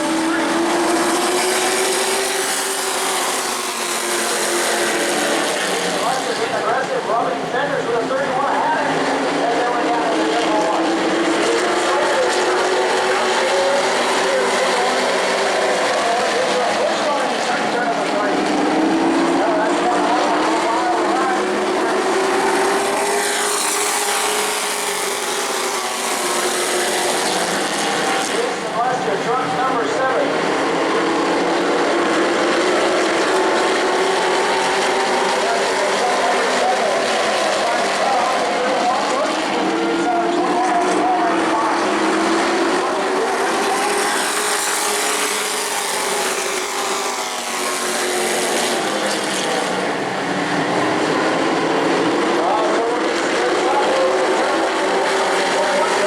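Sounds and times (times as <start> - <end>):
race trucks engine noise: 0.0 - 56.0.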